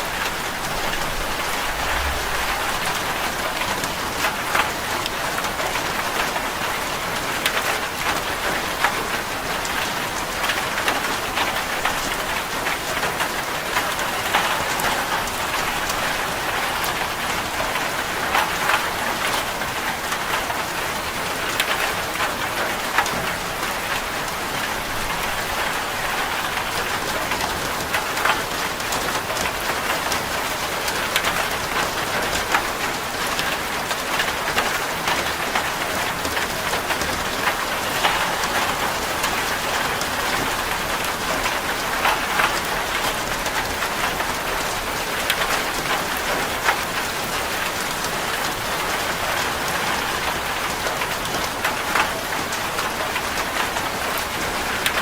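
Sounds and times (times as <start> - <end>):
rain on a metal roof: 0.0 - 55.0.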